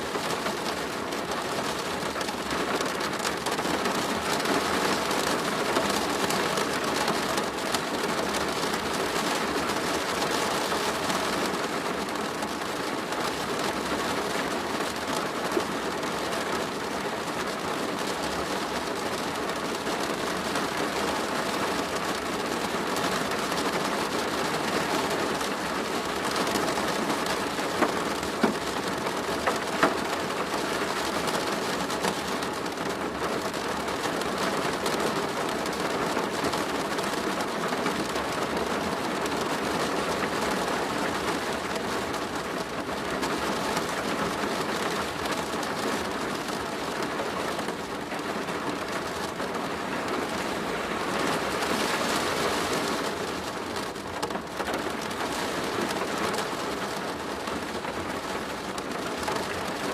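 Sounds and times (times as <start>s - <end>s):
rain on a plastic roof: 0.0s - 59.9s.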